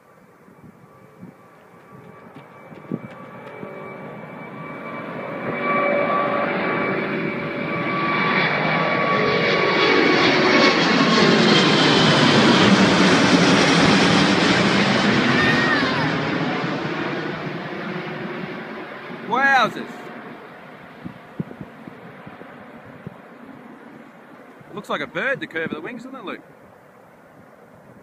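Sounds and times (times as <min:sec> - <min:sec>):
jet airliner rumble passing by: 0:00.0 - 0:28.0
whining engine tones: 0:00.5 - 0:25.4.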